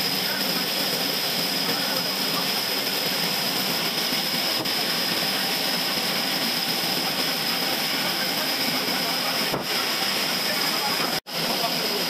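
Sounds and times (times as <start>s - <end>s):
machinery hiss: 0.0s - 12.0s.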